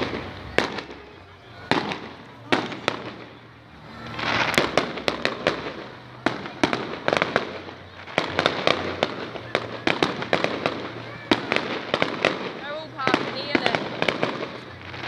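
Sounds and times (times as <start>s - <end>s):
fireworks shells bursting: 0.0s - 15.0s.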